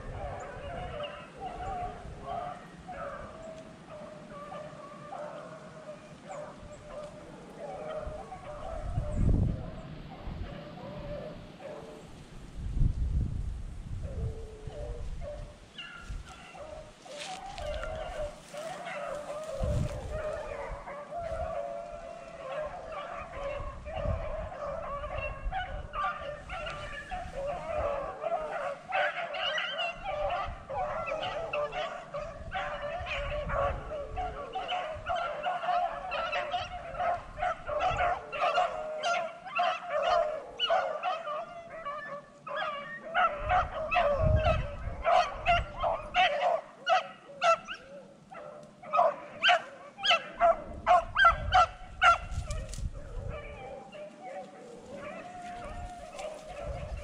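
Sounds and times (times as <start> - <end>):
dogs barking: 0.0 - 12.1, 14.5 - 57.0
hounds baying: 0.0 - 12.2, 14.0 - 57.0.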